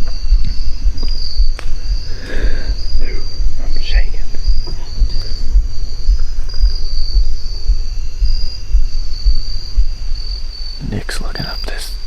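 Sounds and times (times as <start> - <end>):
insects trilling: 0.0 - 12.0
uneven low rumble: 0.0 - 12.0.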